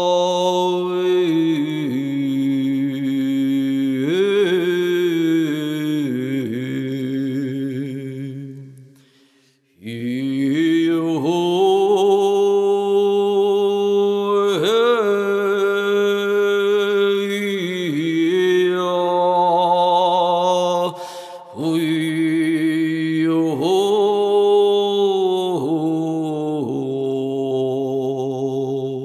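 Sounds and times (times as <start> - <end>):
person chanting long tones: 0.0 - 8.9, 9.8 - 29.0.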